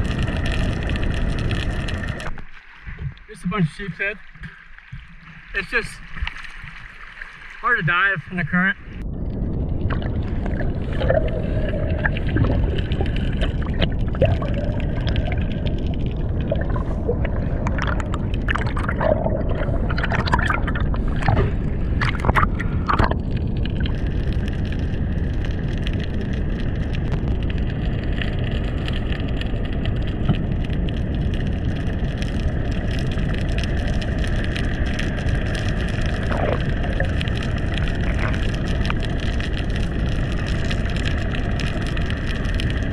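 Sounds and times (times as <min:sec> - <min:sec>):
bubbling: 0:00.0 - 0:42.9
underwater rush of water: 0:00.0 - 0:42.9.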